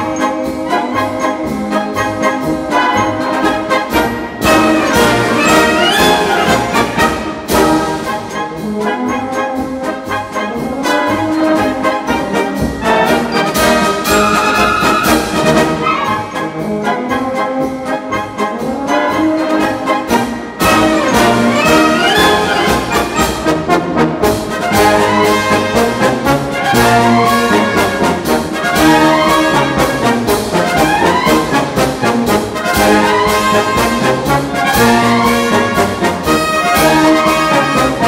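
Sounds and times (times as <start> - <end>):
brass band playing a march: 0.0 - 38.0.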